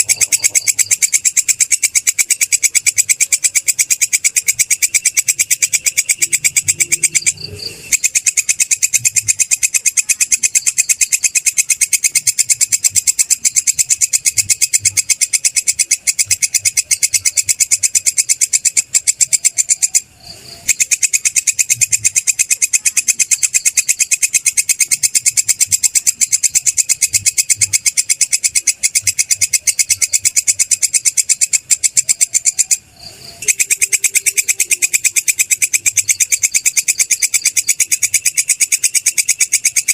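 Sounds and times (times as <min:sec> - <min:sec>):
insect high-pitched trill: 0:00.0 - 0:39.9.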